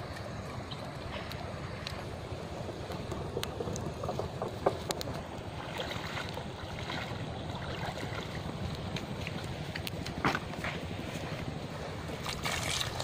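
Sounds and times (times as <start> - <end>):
outdoor noise: 0.0 - 13.0
wind buffeting microphone: 0.0 - 13.0.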